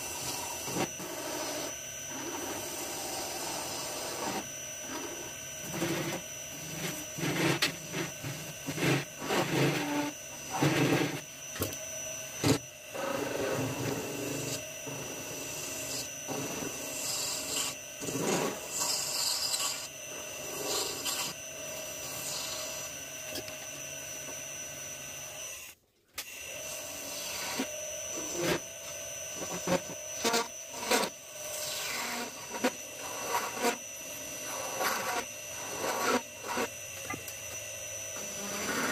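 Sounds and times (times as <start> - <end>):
tool cutting brass on lathe: 0.0 - 24.7, 26.4 - 38.9
lathe motor hum: 0.0 - 38.9.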